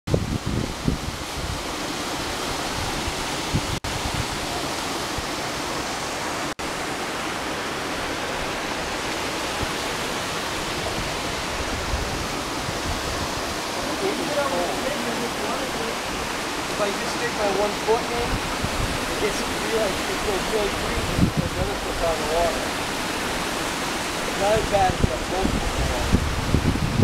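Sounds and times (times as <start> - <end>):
waterfall rushing: 0.1 - 27.0.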